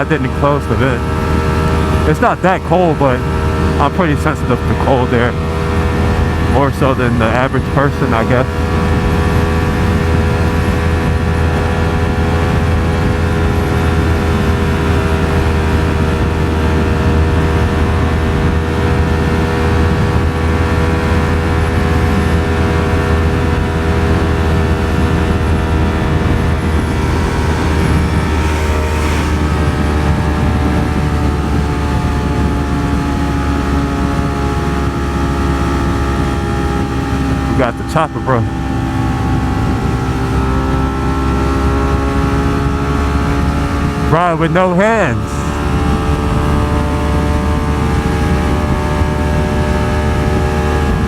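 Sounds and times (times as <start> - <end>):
wind rumble: 0.0 - 37.6, 38.4 - 44.2, 45.2 - 51.0
motorcycle engine cruising: 0.0 - 51.0.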